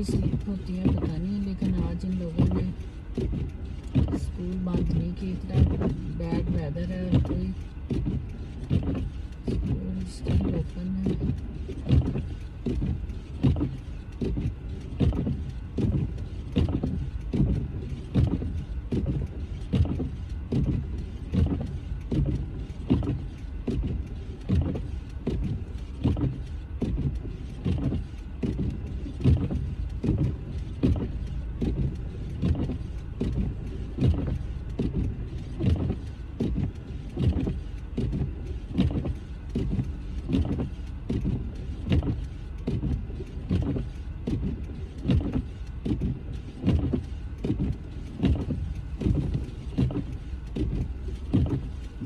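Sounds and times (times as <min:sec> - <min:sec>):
road rumble: 0:00.0 - 0:52.0
windshield wipers thumping: 0:00.0 - 0:52.0.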